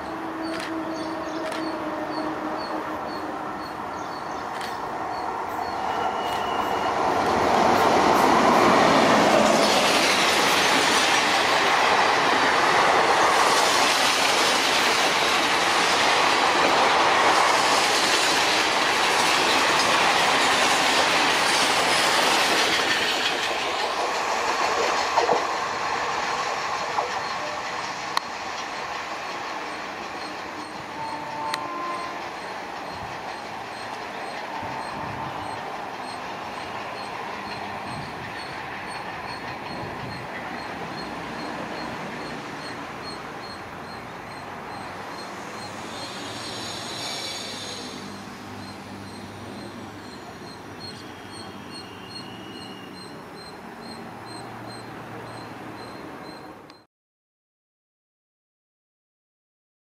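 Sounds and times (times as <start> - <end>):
train wheels clattering on rails: 4.0 - 56.4.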